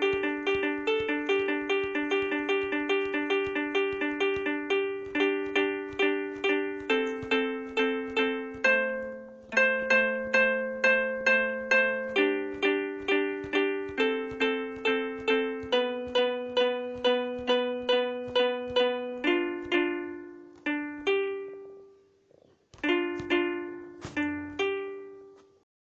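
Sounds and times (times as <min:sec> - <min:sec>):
plucked harp-voiced piano notes: 0:00.0 - 0:21.9, 0:22.8 - 0:25.4.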